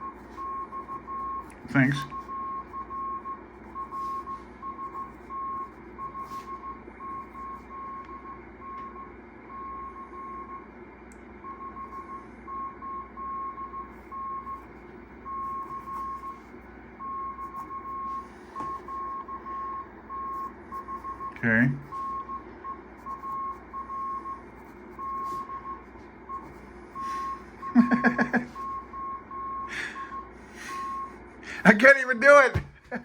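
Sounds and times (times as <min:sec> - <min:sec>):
morse code tone: 0:00.0 - 0:10.6, 0:11.4 - 0:31.2.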